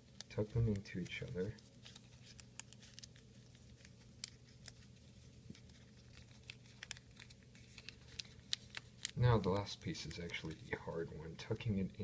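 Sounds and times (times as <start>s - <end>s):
paper crinkling and ticking: 0.0s - 12.0s.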